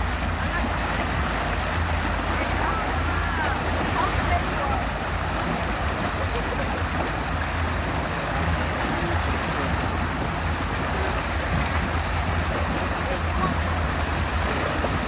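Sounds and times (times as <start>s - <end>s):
motorboat engine drone: 0.0s - 15.0s
water rushing past hull: 0.0s - 15.0s.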